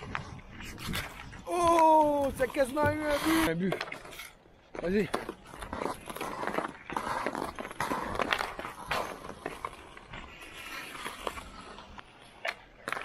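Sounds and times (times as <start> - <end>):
skate blades scraping ice: 0.0 - 13.0.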